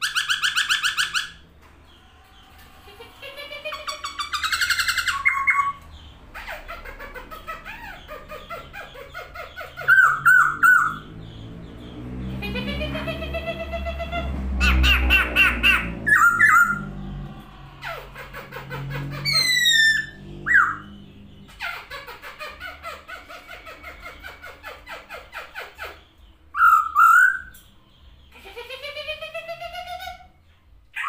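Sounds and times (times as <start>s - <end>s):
loud slurred bird calls: 0.0s - 31.0s.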